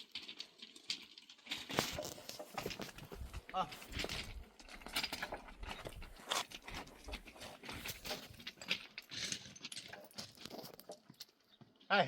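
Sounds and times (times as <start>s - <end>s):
footsteps on stony ground: 1.4s - 11.9s.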